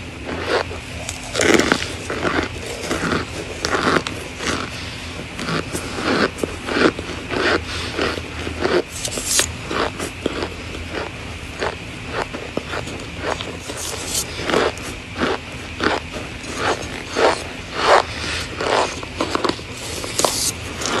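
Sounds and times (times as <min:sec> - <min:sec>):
crunchy chewing: 0:00.2 - 0:21.0.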